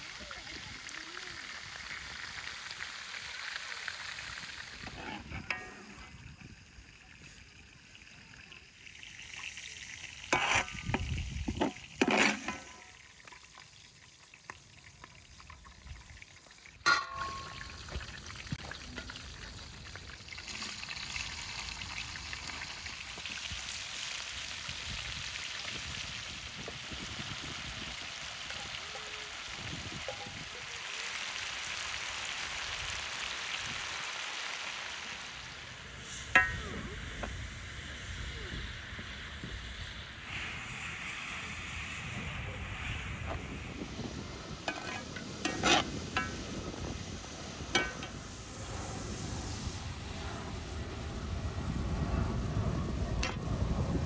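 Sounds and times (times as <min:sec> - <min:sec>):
onions sizzling in hot fat: 0:00.0 - 0:51.4.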